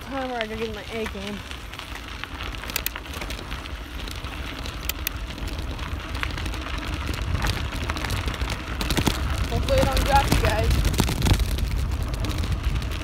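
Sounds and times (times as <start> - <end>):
bicycle clicks and rattles: 0.0 - 13.0
bicycle tyre noise: 0.0 - 13.0
wind rumbling over microphone: 0.0 - 13.0.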